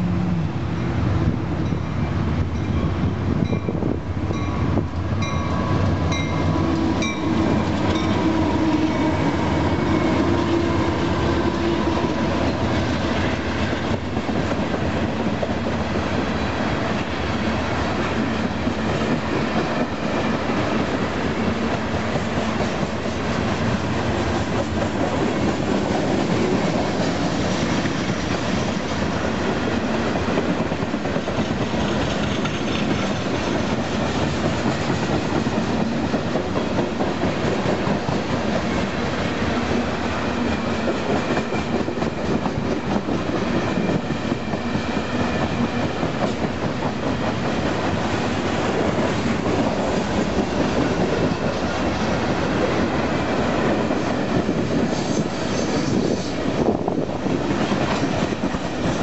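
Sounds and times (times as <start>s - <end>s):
diesel locomotives passing: 0.0s - 59.0s
train wheels clicking over rail joints: 4.3s - 59.0s.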